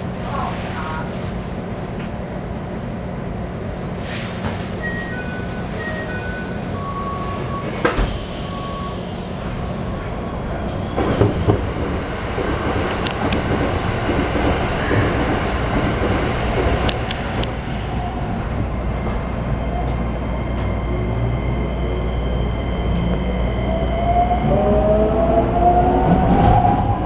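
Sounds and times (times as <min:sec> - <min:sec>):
train running: 0:00.0 - 0:27.0.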